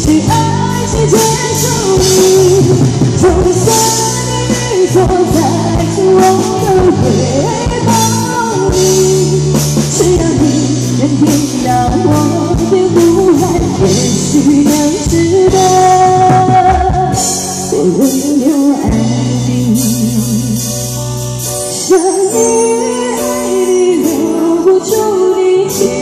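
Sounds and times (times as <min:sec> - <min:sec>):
amplified backing music: 0:00.0 - 0:26.0
woman singing into a microphone: 0:00.0 - 0:26.0.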